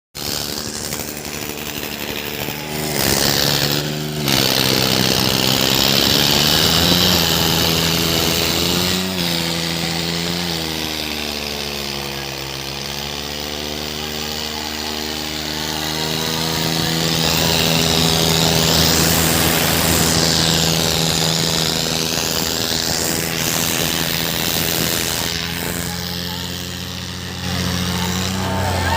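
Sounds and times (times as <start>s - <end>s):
tractor engines under heavy load: 0.1s - 28.9s.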